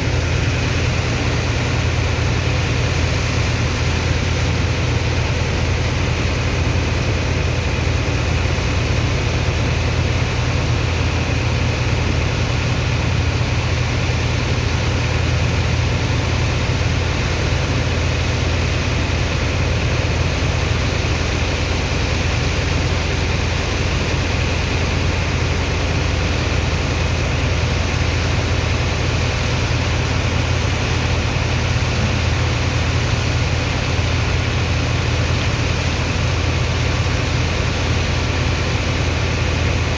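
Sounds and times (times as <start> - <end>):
pump engine humming: 0.0 - 39.9.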